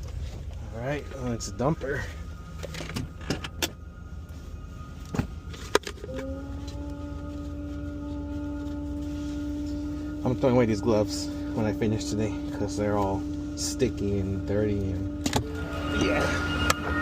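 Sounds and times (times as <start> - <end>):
hydraulic whine: 0.0 - 17.0.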